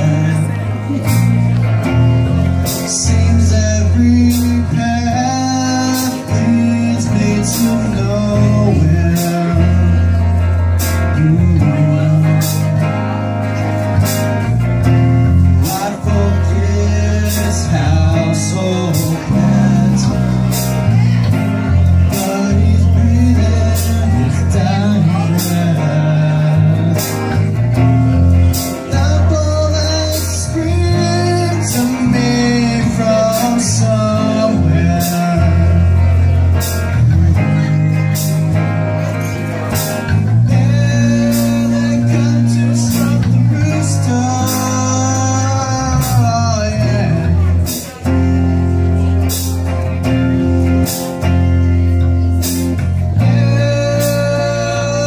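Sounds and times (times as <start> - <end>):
distorted electric guitar: 0.0 - 55.0
drum kit with cymbals: 0.0 - 55.0
electric bass: 0.0 - 55.0
man singing lead vocal: 0.0 - 55.0.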